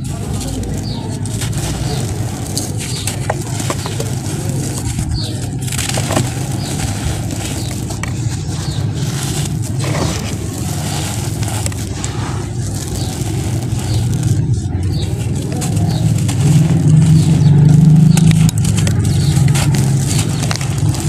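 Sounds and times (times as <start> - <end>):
sand clumps crunching: 0.0 - 21.0
sand trickling down: 0.0 - 21.0.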